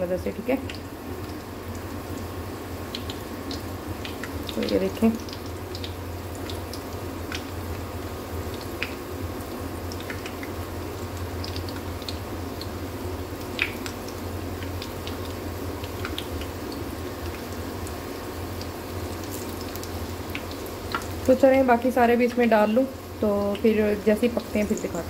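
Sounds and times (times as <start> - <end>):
batter frying in oil: 0.0 - 25.0
oil popping and crackling: 0.2 - 25.0.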